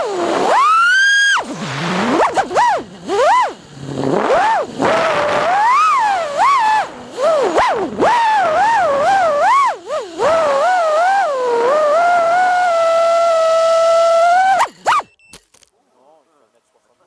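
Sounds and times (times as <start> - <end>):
rc aircraft motor whine: 0.0 - 15.1.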